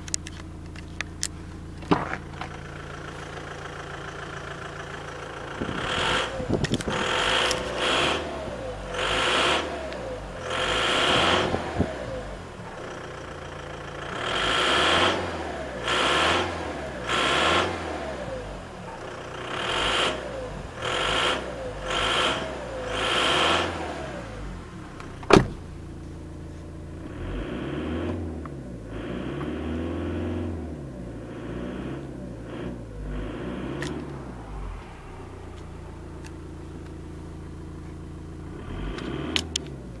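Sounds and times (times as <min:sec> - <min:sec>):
diesel engine revving and idling: 0:00.0 - 0:40.0.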